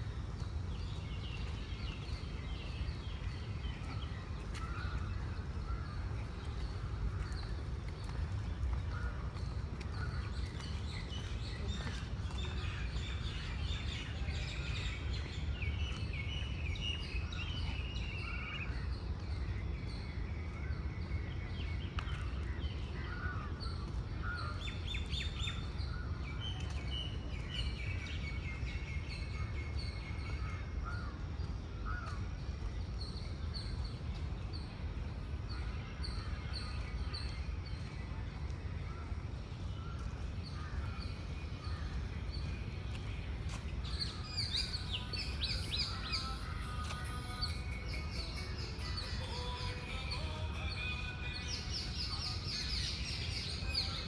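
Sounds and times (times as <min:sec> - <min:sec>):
birds calling and singing: 0:00.0 - 0:54.0.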